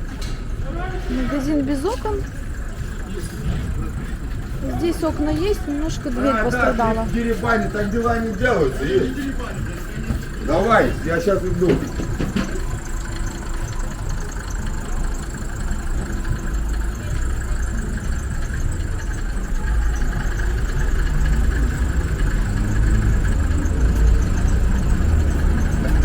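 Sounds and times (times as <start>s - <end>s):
rumble of car engines: 0.0s - 26.0s.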